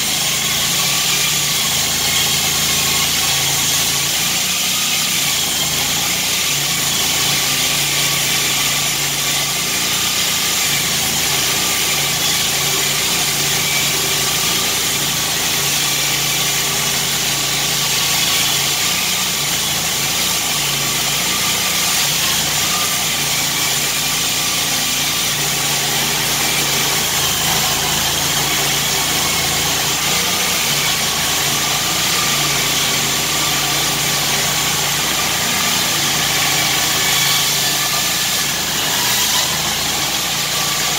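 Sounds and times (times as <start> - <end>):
concrete saw cutting concrete: 0.0 - 40.9.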